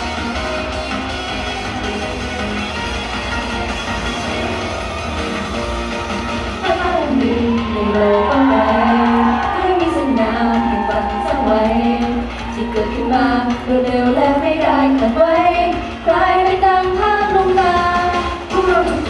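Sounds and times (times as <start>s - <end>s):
pop song over loudspeakers: 0.0s - 19.0s.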